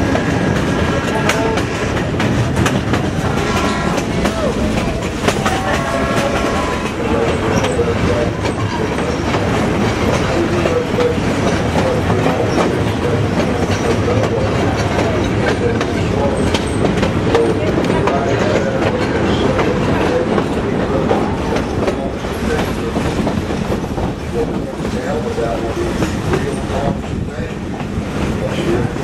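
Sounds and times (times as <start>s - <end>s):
train wheels rumbling on track: 0.0s - 29.0s
wheels clicking over rail joints: 0.0s - 29.0s.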